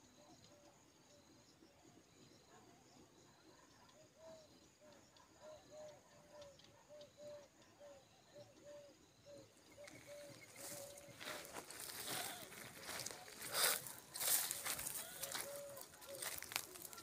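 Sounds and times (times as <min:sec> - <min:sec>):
faint clipped animal calls: 0:00.0 - 0:17.0.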